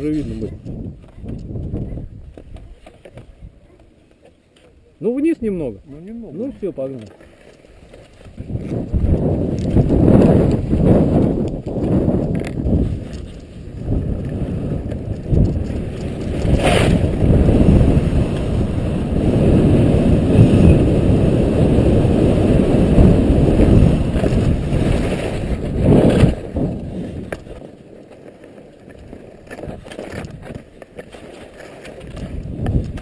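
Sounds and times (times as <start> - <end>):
wind buffeting microphone: 0.0 - 3.9, 8.2 - 27.7, 28.9 - 30.8, 31.9 - 33.0
skis scraping on snow: 5.1 - 33.0.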